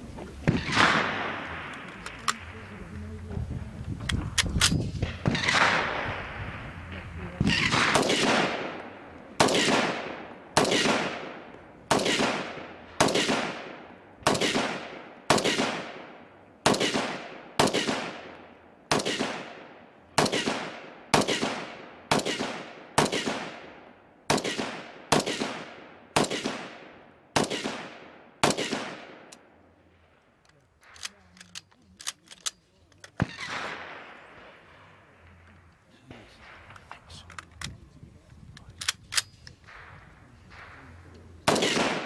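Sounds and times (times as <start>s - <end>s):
rifle shots echoing: 0.4s - 3.2s, 4.3s - 35.4s, 38.8s - 42.0s.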